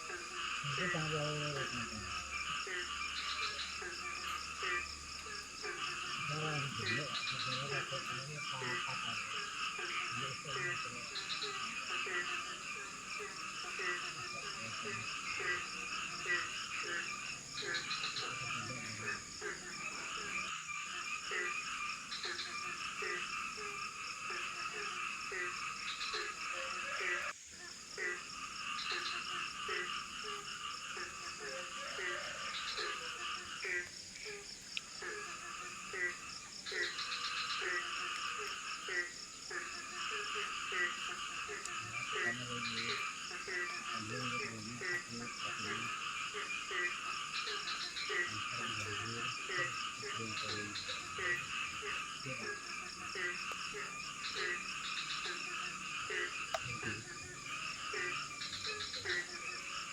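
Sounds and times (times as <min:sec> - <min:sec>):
high-pitched insect drone: 0:00.0 - 0:27.3, 0:28.1 - 0:59.9
frog chorus croaking: 0:00.0 - 0:59.9.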